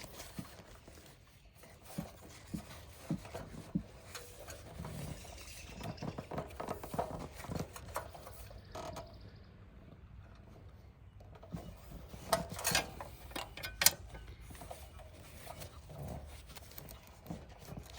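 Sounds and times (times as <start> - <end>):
small clicks and rubbing: 0.0 - 9.2, 10.3 - 17.9.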